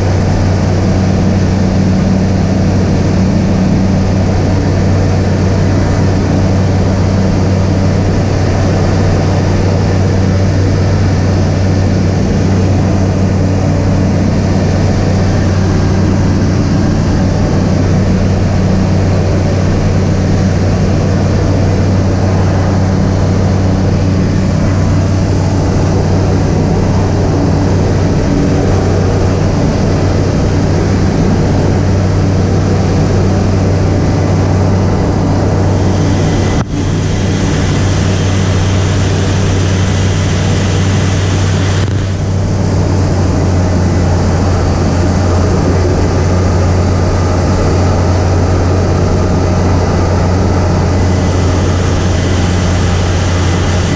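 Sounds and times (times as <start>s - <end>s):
aircraft engine and propeller droning: 0.0s - 53.9s.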